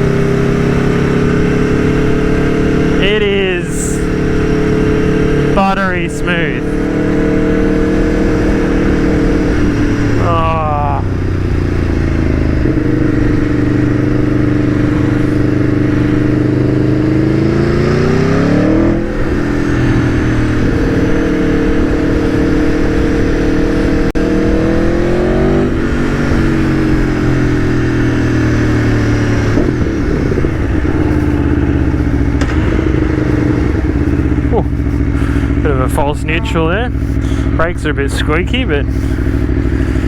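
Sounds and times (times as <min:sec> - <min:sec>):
motorcycle engine revving: 0:00.0 - 0:40.0
wind and road noise: 0:00.0 - 0:40.0.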